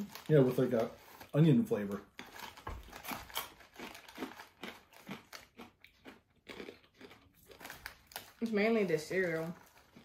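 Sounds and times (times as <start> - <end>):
crunchy snack chewing: 0.0 - 8.5, 9.4 - 10.0
snack bag crinkling: 0.0 - 10.0.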